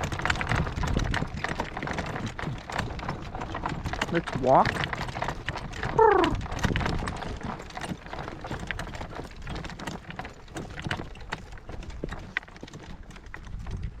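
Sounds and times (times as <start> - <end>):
horse hooves clip-clopping: 0.0 - 14.0
wind buffeting microphone: 0.0 - 14.0.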